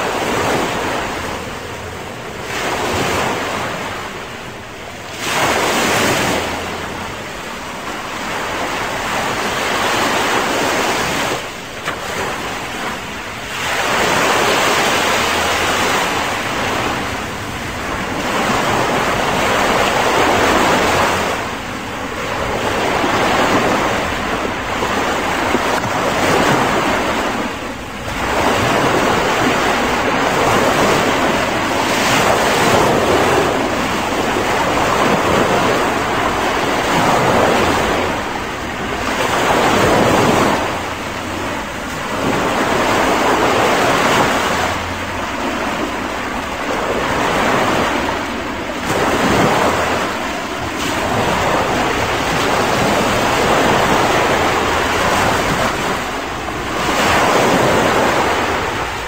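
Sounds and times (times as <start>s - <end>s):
surf washing up a beach: 0.0s - 59.0s.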